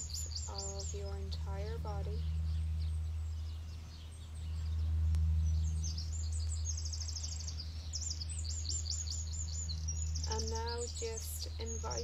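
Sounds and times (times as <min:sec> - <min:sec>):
songbird singing: 0:00.0 - 0:12.0
steady low rumble: 0:00.0 - 0:12.0.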